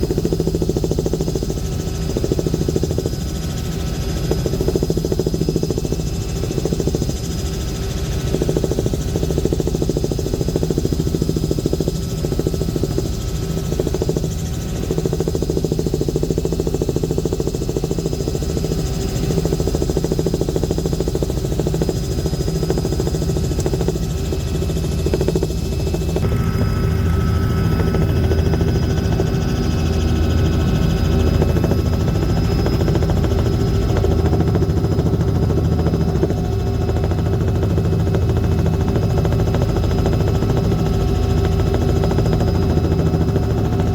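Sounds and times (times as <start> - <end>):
aircraft engine drone: 0.0 - 43.9.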